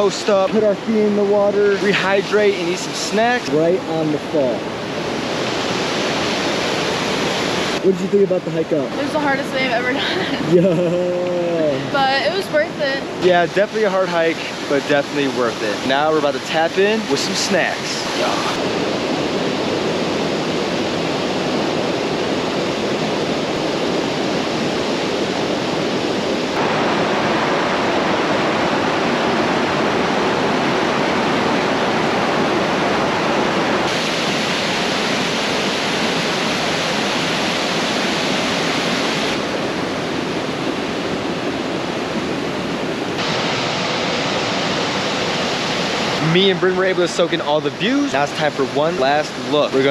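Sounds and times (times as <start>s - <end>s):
roar of whitewater: 0.0s - 49.9s.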